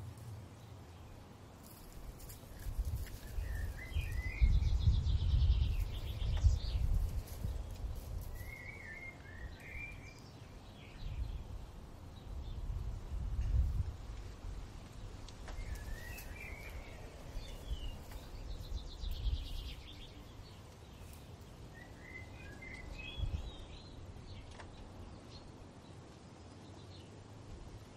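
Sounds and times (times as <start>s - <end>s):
birds twittering: 0.0s - 12.8s, 15.0s - 26.0s.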